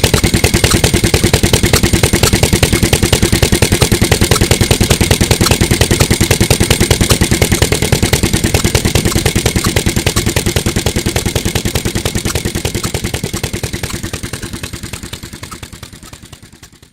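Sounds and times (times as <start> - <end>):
stationary engine running: 0.0 - 16.9.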